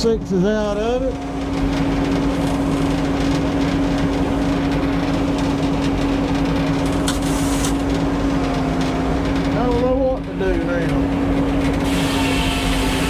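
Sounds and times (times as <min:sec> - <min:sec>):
sawmill engine humming: 0:00.0 - 0:13.0.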